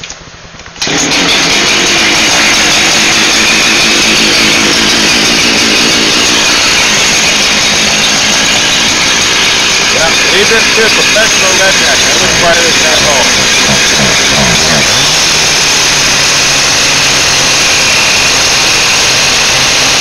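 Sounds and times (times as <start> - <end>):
chainsaw starting and running: 0.8 - 20.0.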